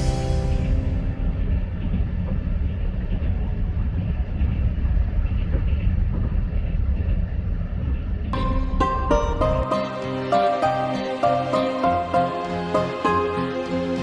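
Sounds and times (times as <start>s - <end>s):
passenger train rumbling: 0.0s - 14.0s.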